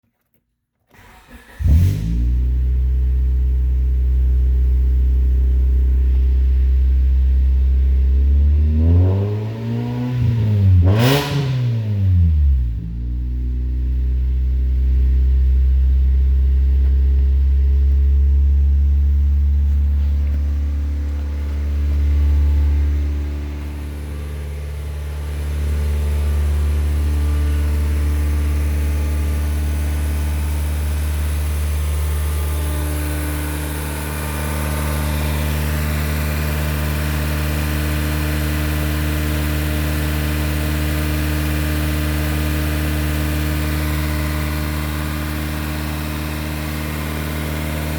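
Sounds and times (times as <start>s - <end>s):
car engine running: 1.5s - 11.2s, 12.2s - 47.9s.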